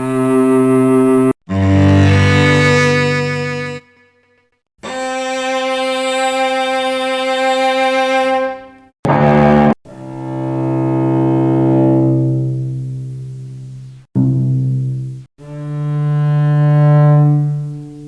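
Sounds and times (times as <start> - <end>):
bowed cello notes: 0.0 - 3.9, 4.8 - 12.9, 14.2 - 18.0.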